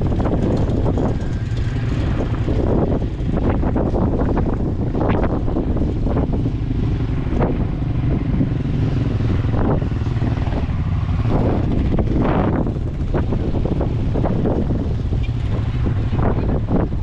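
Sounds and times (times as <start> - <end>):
vehicle rumbling over dirt track: 0.0 - 17.0
wind buffeting microphone: 0.0 - 17.0.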